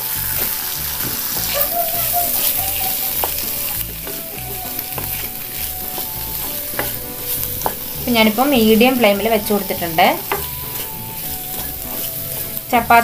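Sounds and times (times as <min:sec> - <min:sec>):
masala sizzling in a pan: 0:00.0 - 0:13.0
wooden spatula scraping a pan: 0:00.0 - 0:13.0.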